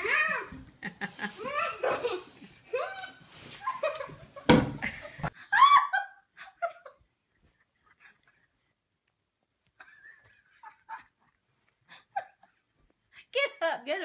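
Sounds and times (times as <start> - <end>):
people laughing and giggling: 0.0 - 8.2, 9.8 - 12.8.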